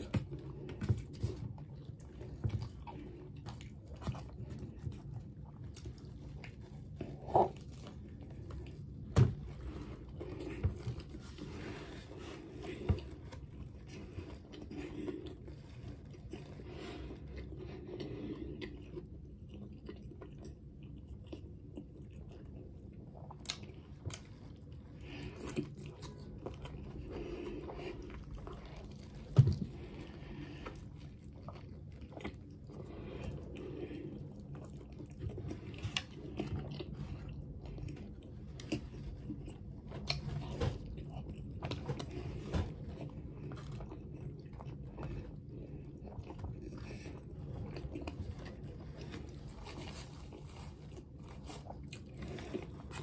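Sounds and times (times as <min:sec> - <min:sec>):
person chewing sandwich: 0:00.0 - 0:53.0.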